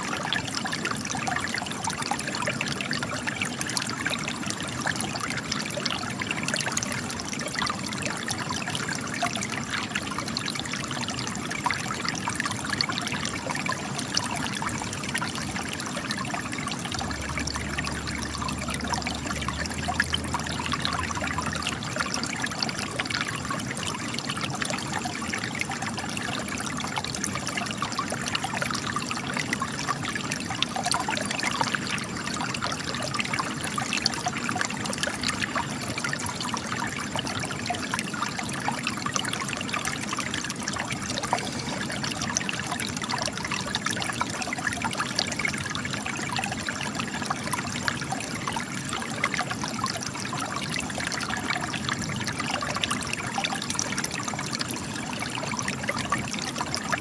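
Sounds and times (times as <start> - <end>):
water trickling over rocks: 0.0 - 57.0.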